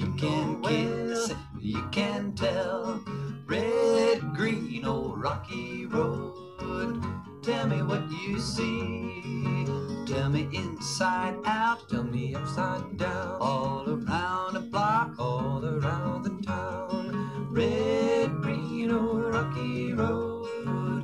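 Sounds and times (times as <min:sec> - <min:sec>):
acoustic guitars strummed and plucked: 0:00.0 - 0:21.0
people singing: 0:00.0 - 0:21.0.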